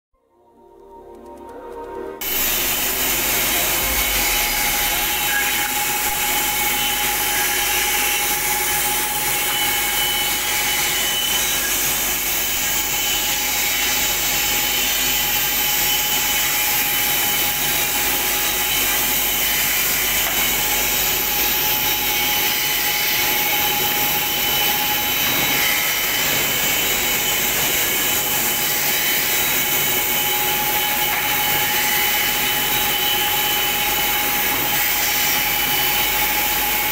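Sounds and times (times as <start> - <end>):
planer machine whining: 2.2 - 36.9.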